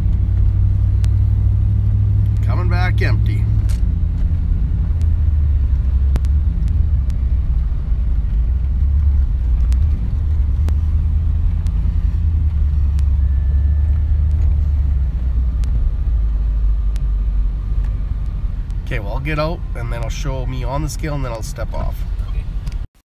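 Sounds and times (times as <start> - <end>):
truck engine and tyres rumbling: 0.0 - 23.0.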